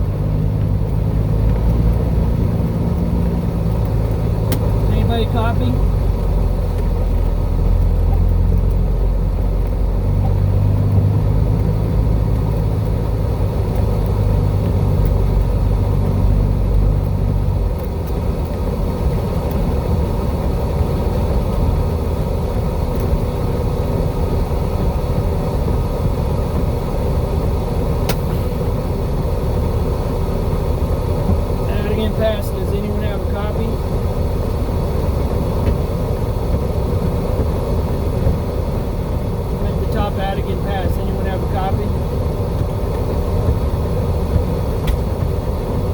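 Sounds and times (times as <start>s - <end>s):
engine rumble from inside cab: 0.0s - 45.9s.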